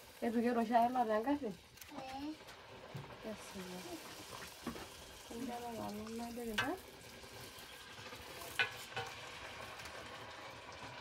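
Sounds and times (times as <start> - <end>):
steady sizzling hiss: 0.0 - 11.0.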